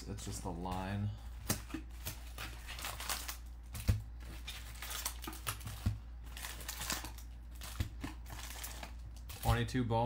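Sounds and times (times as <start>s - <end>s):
card packs crinkling: 0.1s - 9.8s.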